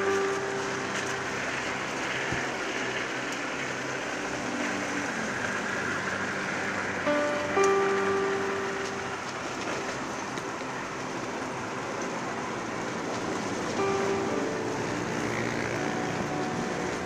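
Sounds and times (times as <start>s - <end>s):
held music notes: 0.0s - 17.0s
rail trolley rolling on tracks: 0.0s - 17.0s.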